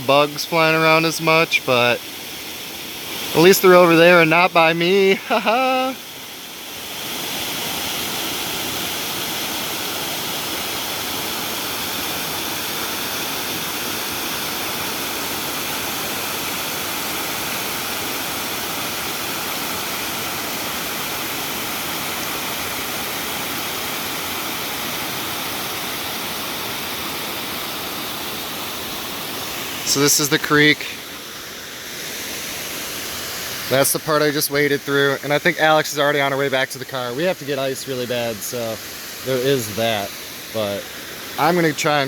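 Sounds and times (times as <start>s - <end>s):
creek and waterfall rushing: 0.0s - 42.0s.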